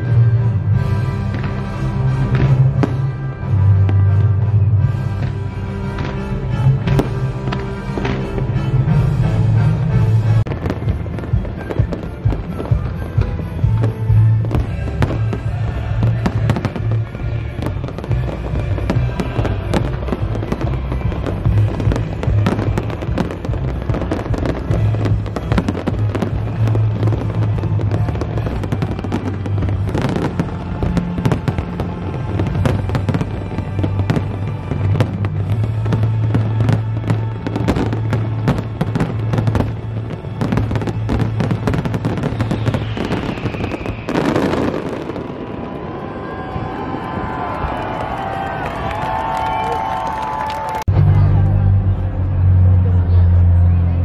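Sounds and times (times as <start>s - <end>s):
music with deep bass: 0.0s - 45.3s, 50.9s - 54.0s
fireworks bursting: 0.8s - 50.7s.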